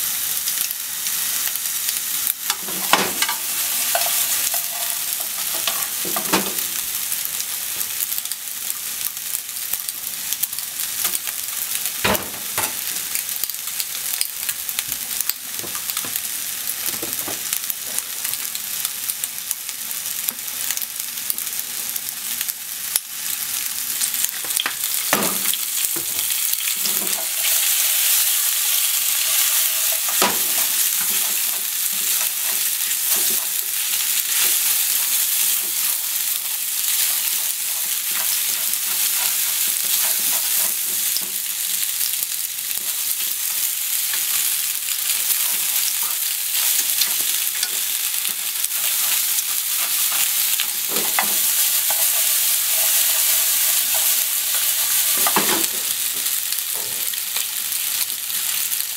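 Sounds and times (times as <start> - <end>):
food sizzling in oil: 0.0 - 58.9.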